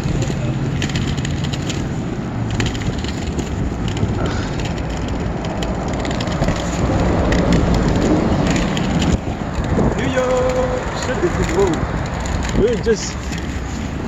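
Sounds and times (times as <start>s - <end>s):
inline skate wheels rolling on concrete: 0.0s - 14.0s.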